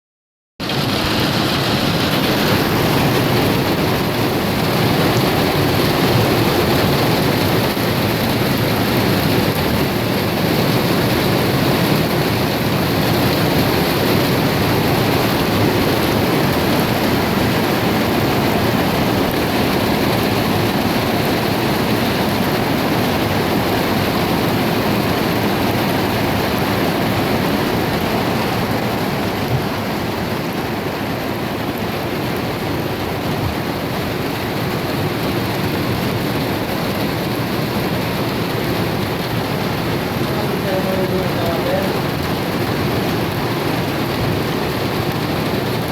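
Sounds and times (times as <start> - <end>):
rain falling: 0.6 - 45.9.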